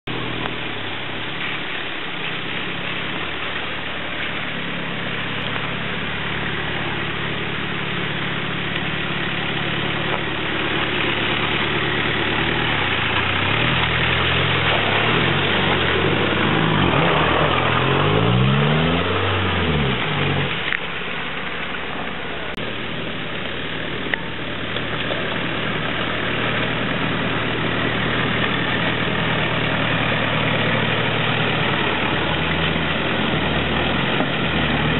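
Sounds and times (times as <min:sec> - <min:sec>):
off-road vehicle engine revving: 0:02.3 - 0:34.9.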